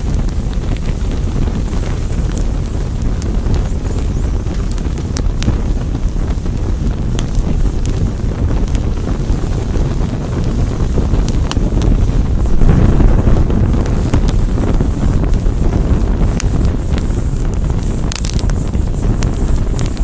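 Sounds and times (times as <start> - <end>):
fire crackles and pops: 0.0 - 20.0
fire rumbling: 0.0 - 20.0.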